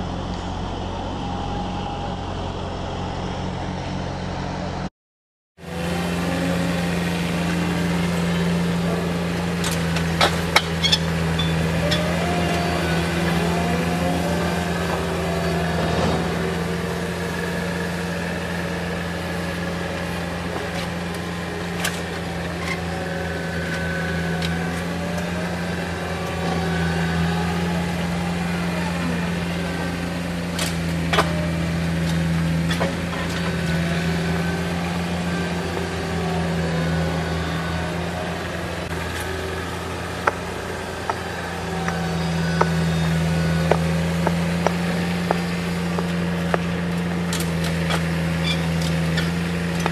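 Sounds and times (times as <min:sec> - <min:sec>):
heavy machine engine humming: 0:00.0 - 0:04.9, 0:05.6 - 0:49.9.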